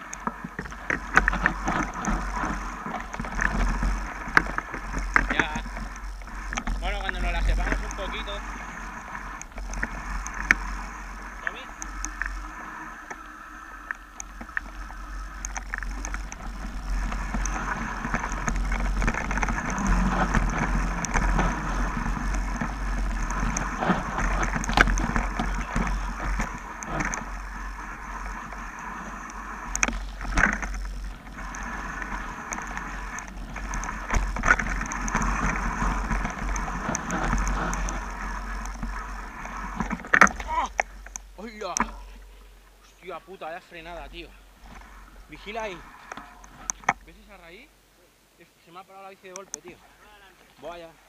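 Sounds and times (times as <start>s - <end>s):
bike rattling: 0.0s - 47.8s
bike tyres rolling over dirt: 0.0s - 47.8s, 48.6s - 51.0s
steady low rumble: 0.0s - 48.3s.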